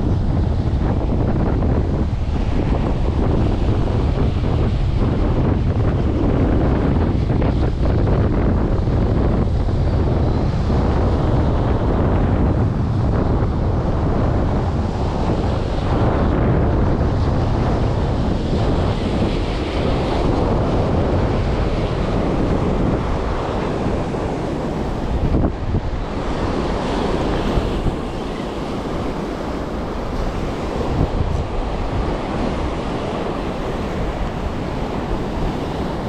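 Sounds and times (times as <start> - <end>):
ocean surf breaking on rocks: 0.0 - 36.0
wind buffeting microphone: 0.0 - 36.0.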